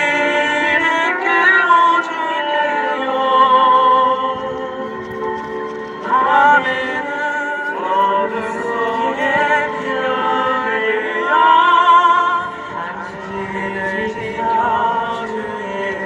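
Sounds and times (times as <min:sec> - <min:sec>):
person singing with vibrato: 0:00.0 - 0:16.0
slow song accompaniment: 0:00.0 - 0:16.0.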